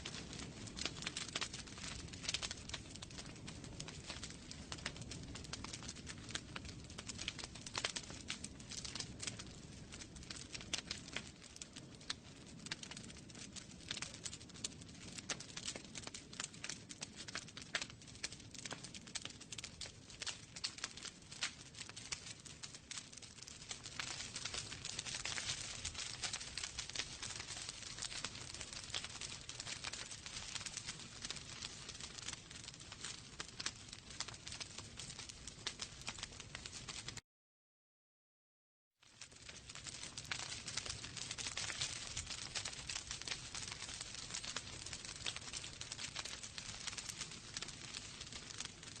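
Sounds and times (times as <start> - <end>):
wood fire crackling: 0.0 - 37.2, 39.0 - 49.0.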